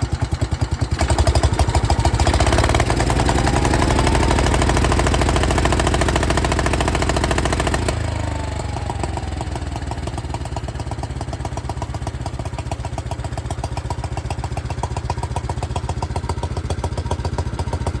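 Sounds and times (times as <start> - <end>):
garden tractor engine idling: 0.0 - 18.0.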